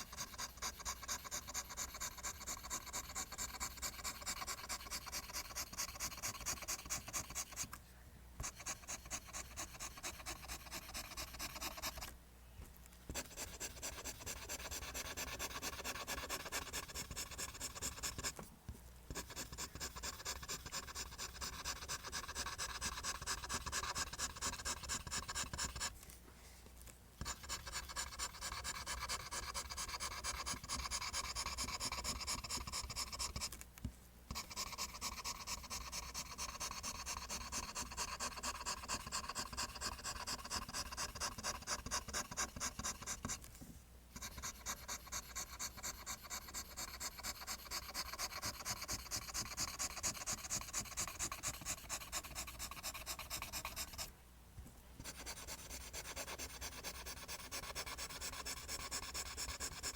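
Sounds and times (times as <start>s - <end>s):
pencil scratching on paper: 0.0s - 7.7s, 8.4s - 12.1s, 13.1s - 18.5s, 19.1s - 25.9s, 27.2s - 33.6s, 34.3s - 43.4s, 44.2s - 54.1s, 55.0s - 59.9s.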